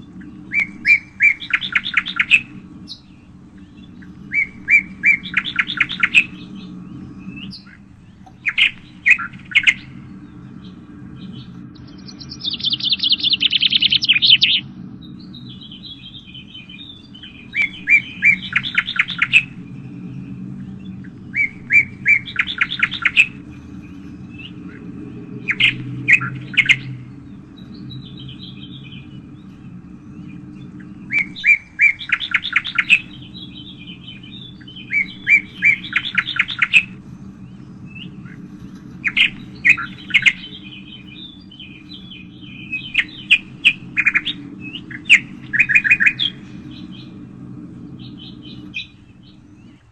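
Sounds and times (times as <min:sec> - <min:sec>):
birds chirping: 0:00.0 - 0:49.9
steady low hum: 0:00.0 - 0:49.9
bird trill: 0:00.2 - 0:47.3.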